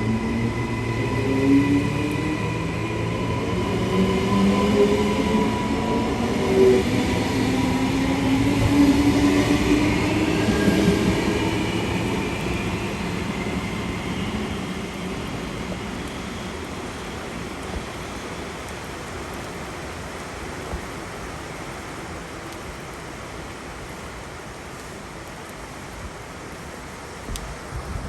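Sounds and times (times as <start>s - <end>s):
electric train rumbling: 0.0s - 23.3s.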